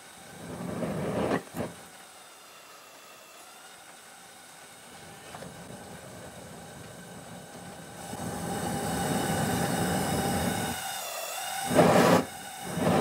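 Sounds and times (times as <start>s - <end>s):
gas burner flame roaring: 0.0s - 13.0s.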